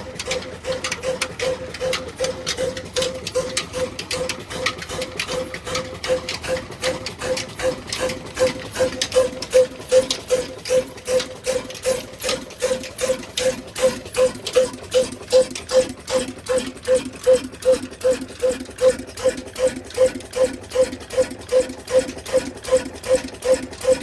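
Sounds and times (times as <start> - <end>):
diesel engine with ringing knocks: 0.0 - 24.0.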